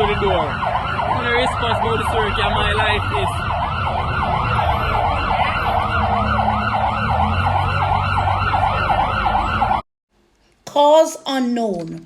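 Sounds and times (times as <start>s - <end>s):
emergency siren yelping: 0.0s - 9.8s.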